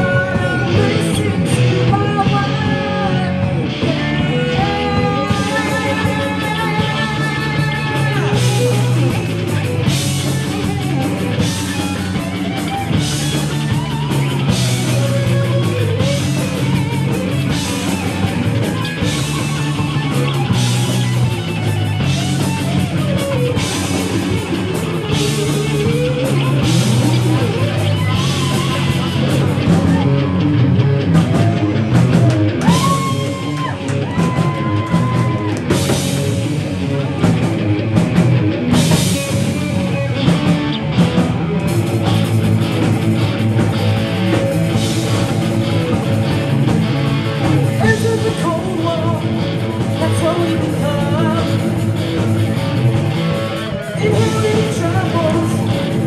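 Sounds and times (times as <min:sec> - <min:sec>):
bending guitar notes: 0:00.0 - 0:56.0
live rock band playing: 0:00.0 - 0:56.0.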